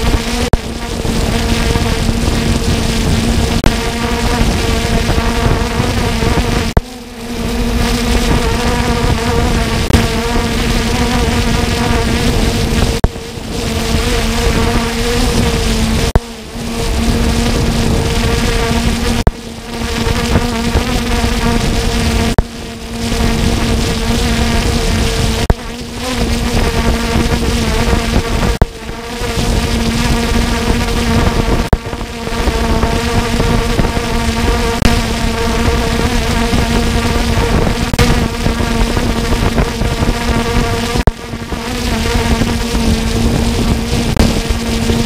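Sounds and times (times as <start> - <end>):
drone propellers buzzing: 0.0 - 45.0.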